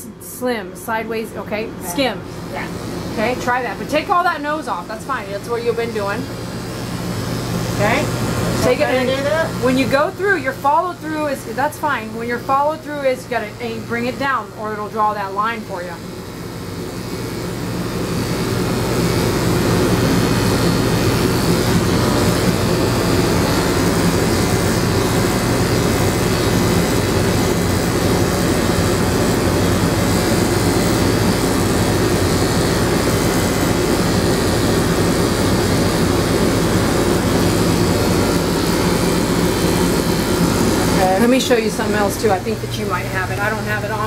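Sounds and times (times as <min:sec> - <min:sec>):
electric clippers buzzing: 0:01.8 - 0:44.0.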